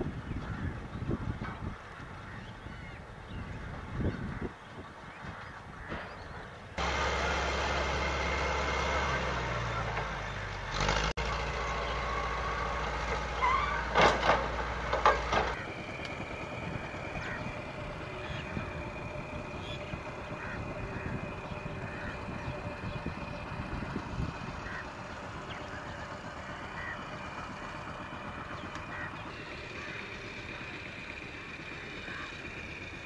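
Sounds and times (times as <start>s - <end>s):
heavy vehicle engine rumbling: 0.0s - 33.0s.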